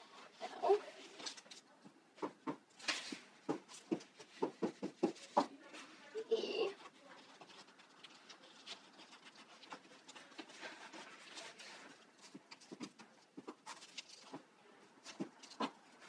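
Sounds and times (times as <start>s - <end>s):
paper rustling: 0.0s - 1.7s, 2.7s - 16.0s
light taps and scrapes on paper: 1.1s - 6.0s, 6.8s - 16.0s.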